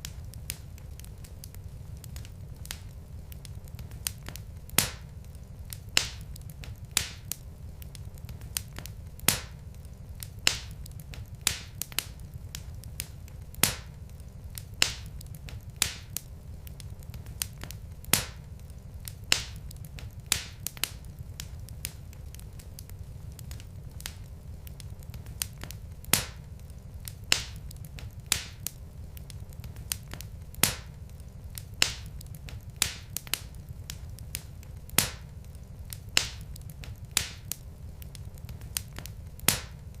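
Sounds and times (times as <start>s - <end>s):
sharp pops of burning logs: 0.0s - 40.0s
wood fire crackling: 0.0s - 40.0s.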